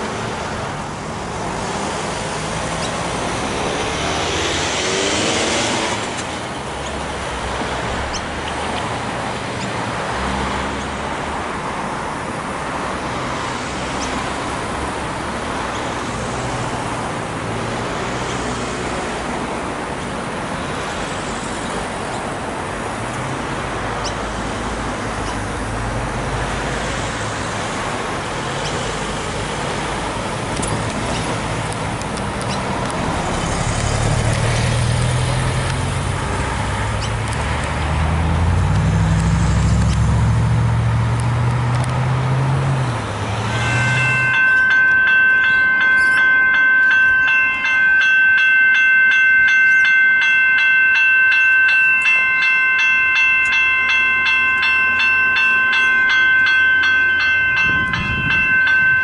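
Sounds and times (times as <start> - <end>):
cars driving past: 0.0 - 59.0
heavy low engine rumble: 6.0 - 59.0.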